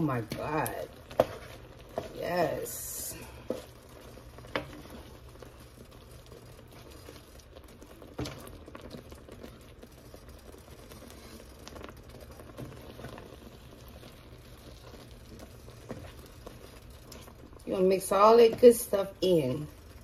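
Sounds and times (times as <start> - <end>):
spoon stirring thick dip: 0.0 - 20.0.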